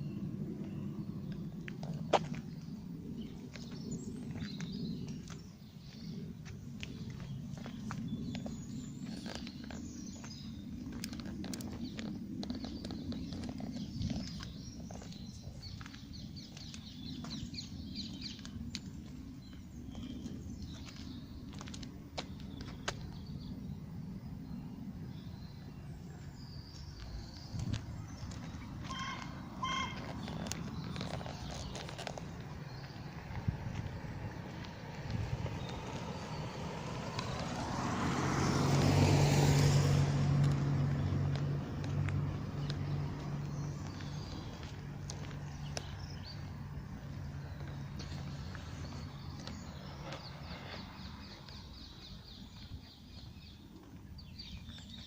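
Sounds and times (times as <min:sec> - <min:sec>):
vehicle passing by: 0:00.0 - 0:53.6
small birds chirping: 0:00.0 - 0:55.0.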